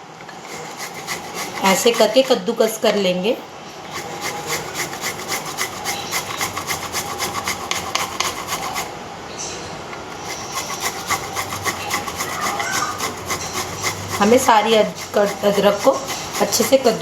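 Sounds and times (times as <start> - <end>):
ginger rasping on a hand grater: 0.4 - 2.8, 3.9 - 8.9, 10.2 - 17.0.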